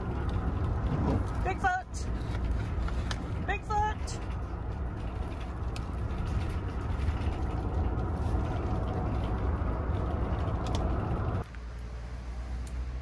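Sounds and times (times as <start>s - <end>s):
van road noise rumble: 0.0s - 13.0s.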